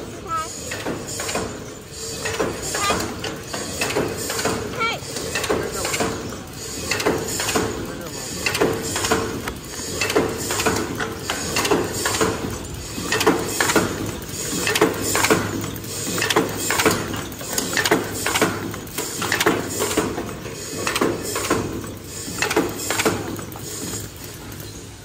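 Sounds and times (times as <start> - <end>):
machine clattering: 0.0 - 25.0.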